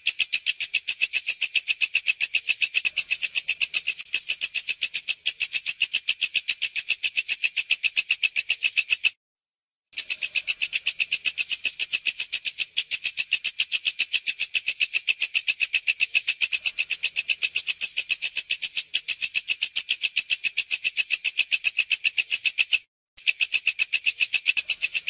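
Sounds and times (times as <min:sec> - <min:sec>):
katydid stridulating: 0:00.0 - 0:09.0, 0:10.0 - 0:25.0.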